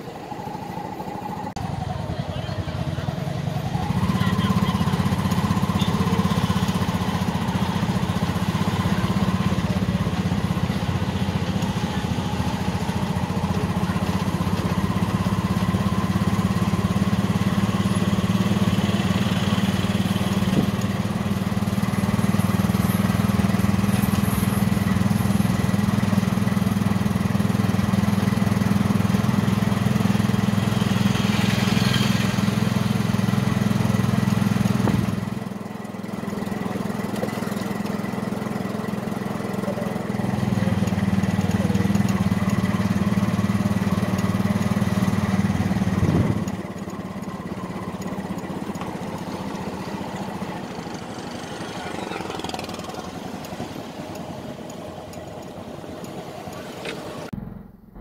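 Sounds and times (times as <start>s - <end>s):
road traffic passing: 0.0s - 58.0s
vehicle engine running: 0.0s - 58.0s.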